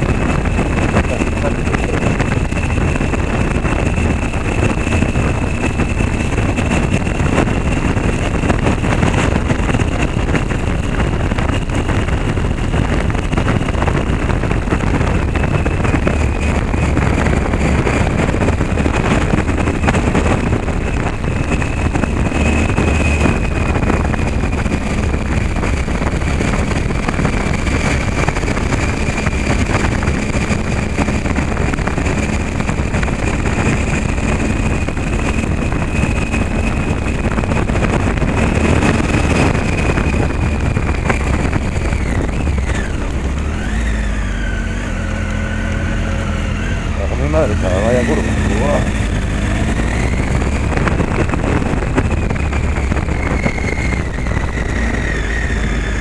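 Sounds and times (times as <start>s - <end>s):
motorcycle engine running: 0.0s - 56.0s
tyres rumbling on cobblestones: 0.0s - 56.0s
wind noise on microphone: 0.0s - 56.0s.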